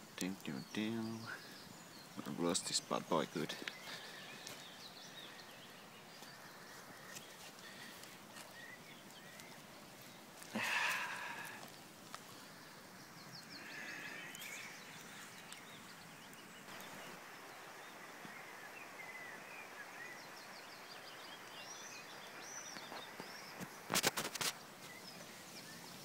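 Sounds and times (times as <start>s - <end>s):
birds singing faintly: 0.0s - 26.0s
outdoor background hiss: 0.0s - 26.0s.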